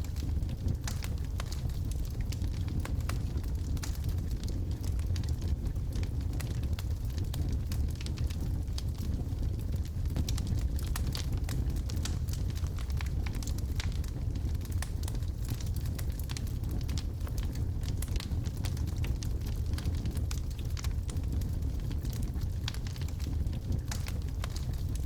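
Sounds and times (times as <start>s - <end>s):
logs crackling in fireplace: 0.0s - 25.0s.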